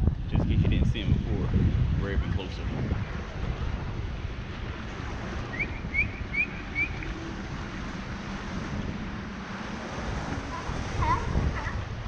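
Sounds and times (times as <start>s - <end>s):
small boat motor rumbling: 0.0s - 12.0s
wind buffeting microphone: 0.0s - 12.0s.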